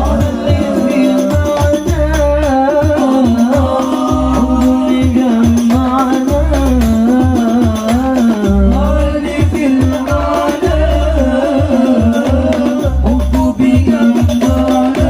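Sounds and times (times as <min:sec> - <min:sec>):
frame drum percussion: 0:00.0 - 0:15.0
man singing ornamented phrases: 0:00.0 - 0:15.0.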